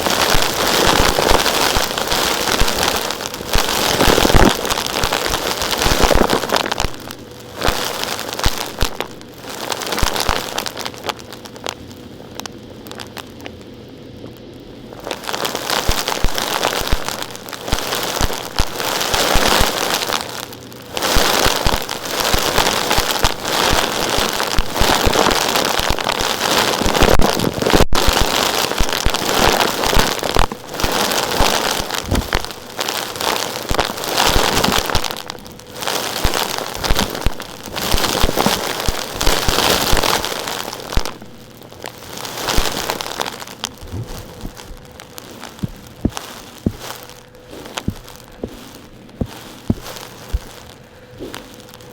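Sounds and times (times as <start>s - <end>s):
small rocks and grit rattling: 0.0s - 11.8s, 15.0s - 51.9s.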